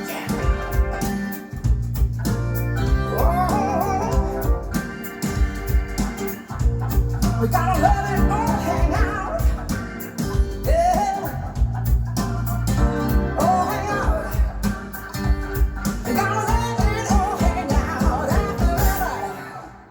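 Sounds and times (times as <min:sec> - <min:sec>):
bass and drum beat: 0:00.0 - 0:19.2
guitar: 0:00.0 - 0:19.9.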